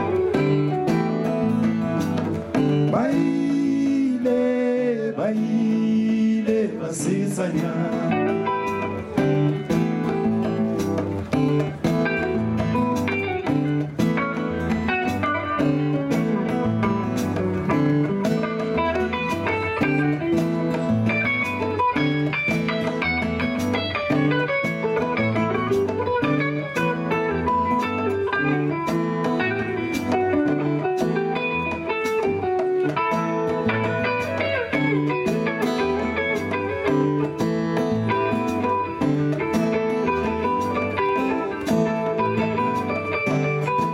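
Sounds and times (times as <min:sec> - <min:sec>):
live band playing: 0:00.0 - 0:43.9
plucked guitar chords: 0:00.0 - 0:43.9.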